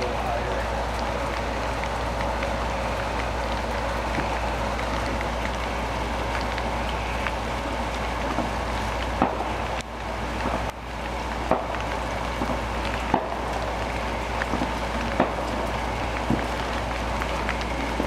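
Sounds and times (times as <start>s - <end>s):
fireworks hissing and crackling: 0.0s - 18.0s
firework pops: 2.1s - 5.7s, 6.3s - 10.8s, 11.4s - 18.0s.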